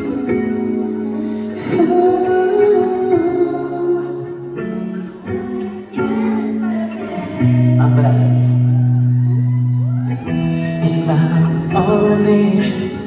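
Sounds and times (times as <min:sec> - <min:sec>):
band playing slow ballad with guitar: 0:00.0 - 0:13.0
person singing: 0:00.0 - 0:13.0.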